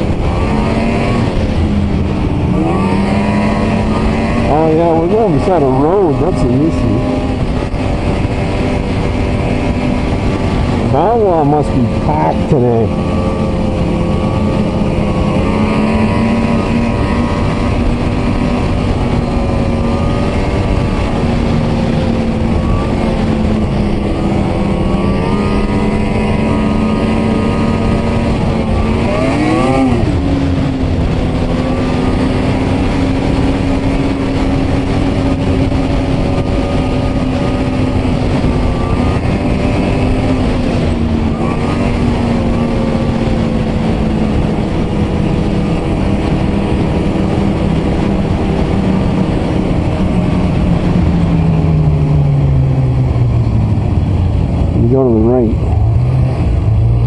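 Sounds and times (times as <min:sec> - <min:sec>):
snowmobile engine running: 0:00.0 - 0:57.0
track and wind noise: 0:00.0 - 0:57.0.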